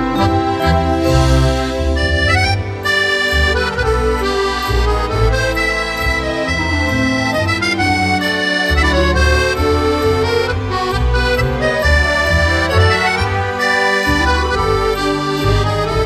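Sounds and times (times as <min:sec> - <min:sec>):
accordion music: 0:00.0 - 0:16.0
steady bass line: 0:00.0 - 0:16.0.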